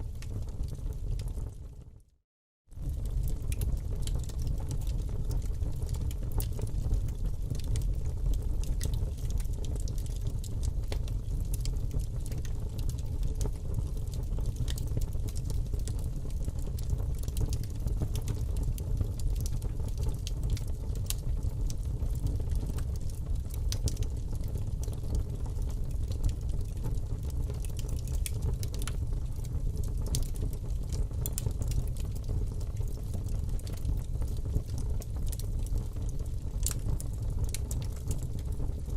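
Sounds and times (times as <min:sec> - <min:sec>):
wood fire crackling and popping: 0:00.1 - 0:02.0, 0:02.7 - 0:38.9.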